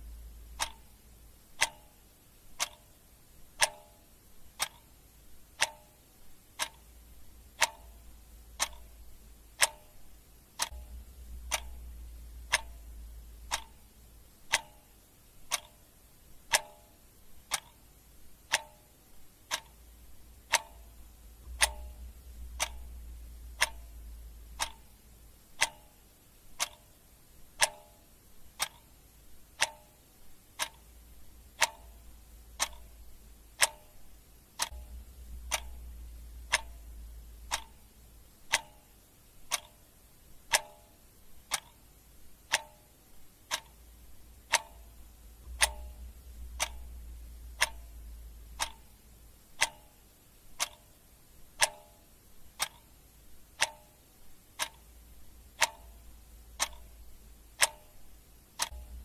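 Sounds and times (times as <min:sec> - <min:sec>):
clock ticking: 0:00.0 - 0:59.0
faint low hum: 0:00.0 - 0:59.0.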